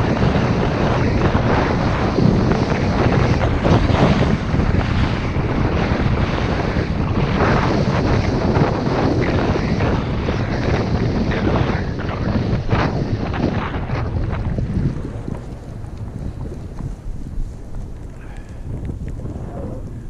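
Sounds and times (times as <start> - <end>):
skis scraping over snow: 0.0 - 20.0
wind rushing over microphone: 0.0 - 20.0.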